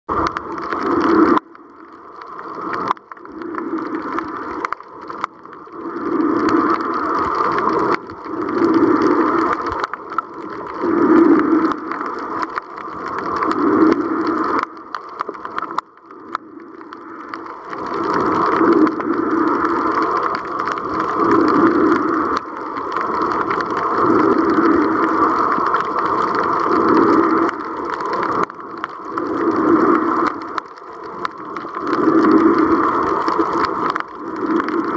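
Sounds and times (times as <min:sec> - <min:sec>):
muffled underwater water noise: 0:00.1 - 0:34.9.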